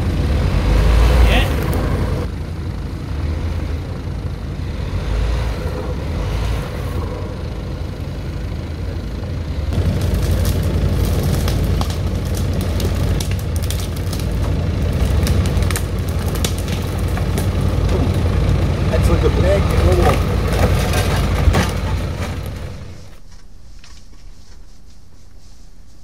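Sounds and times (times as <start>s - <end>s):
car engine idling: 0.0s - 23.5s.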